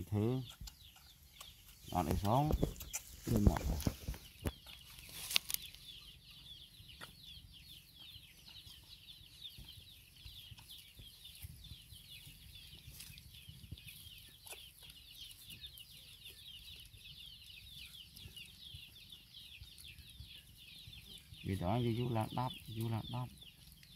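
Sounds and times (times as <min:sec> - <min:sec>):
rustles of dry leaves and twigs: 0:00.0 - 0:06.2, 0:07.0 - 0:23.9
chorus of bird chirps: 0:00.0 - 0:23.9.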